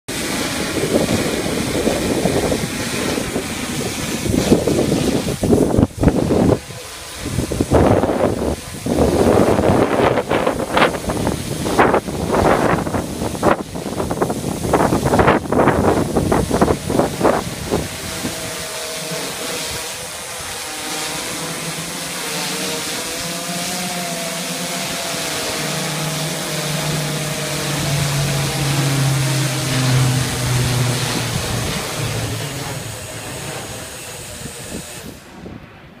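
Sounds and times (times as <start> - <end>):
drone rotors whirring: 0.1 - 35.6.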